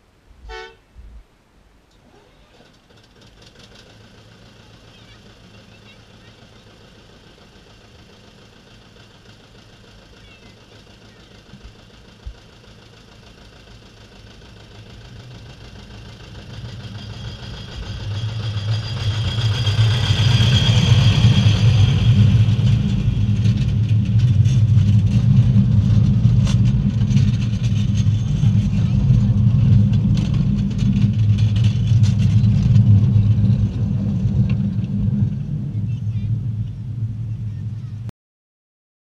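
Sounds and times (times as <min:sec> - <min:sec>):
diesel locomotive engine drone: 0:02.7 - 0:38.1.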